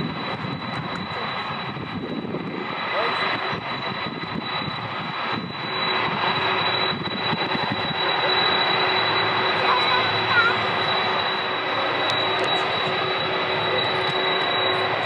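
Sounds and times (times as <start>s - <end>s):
jet engine fan whine: 0.0s - 15.0s
jet engine rumble: 0.0s - 15.0s.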